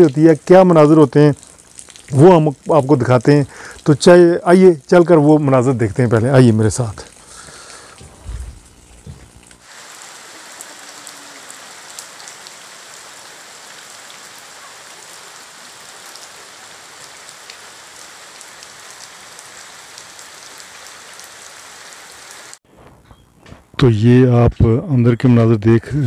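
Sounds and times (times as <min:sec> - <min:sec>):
rain falling on puddles: 0:00.0 - 0:22.6.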